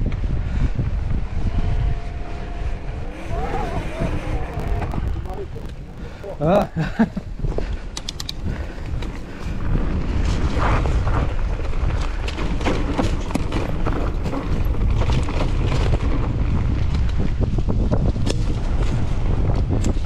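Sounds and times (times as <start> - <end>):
mountain bike rattling over trail: 0.0 - 20.0
wind rumbling on microphone: 0.0 - 20.0.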